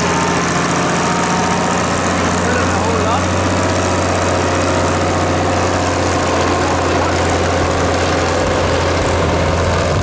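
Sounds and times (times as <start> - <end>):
tractor engine humming: 0.0 - 10.0.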